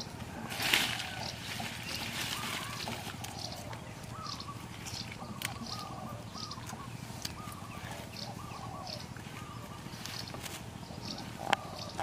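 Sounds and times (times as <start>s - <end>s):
higher bird chirps: 1.0s - 12.0s.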